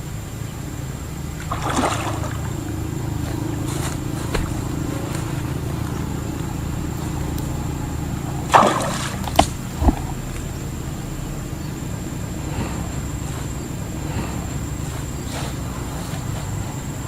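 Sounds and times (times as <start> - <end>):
low hum: 0.0 - 17.0
water splashing: 0.0 - 17.0.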